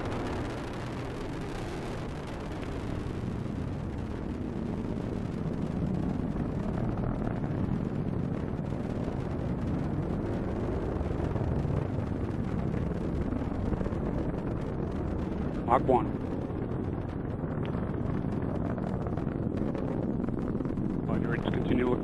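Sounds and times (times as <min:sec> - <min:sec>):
rocket engine deep rumbling: 0:00.0 - 0:22.0.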